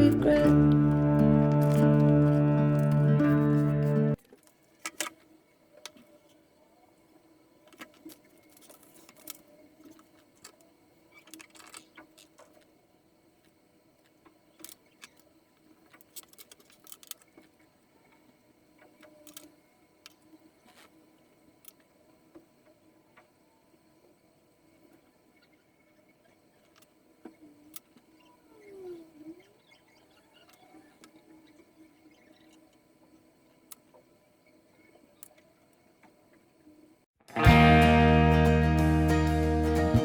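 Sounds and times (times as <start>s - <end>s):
faint room hum: 0.0s - 38.7s.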